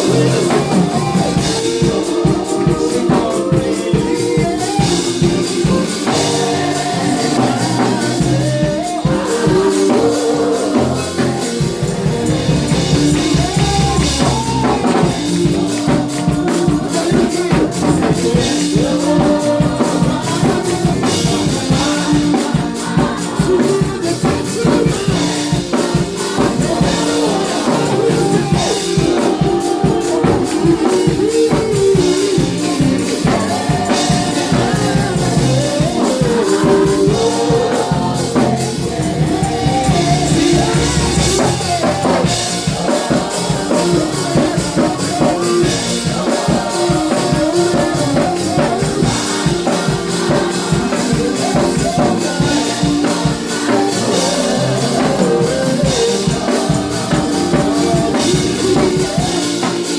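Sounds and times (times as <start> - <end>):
drum kit: 0.0 - 59.9
gospel singing: 0.0 - 59.9
tambourine: 0.0 - 59.9.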